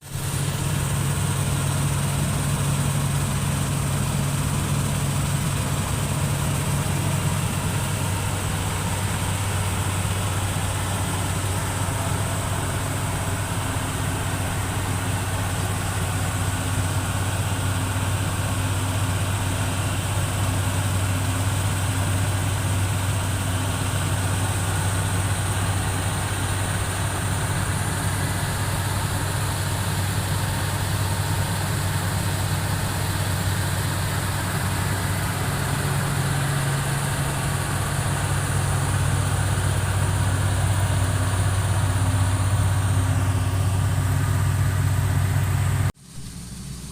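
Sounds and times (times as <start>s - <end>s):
engine droning: 0.0s - 46.9s.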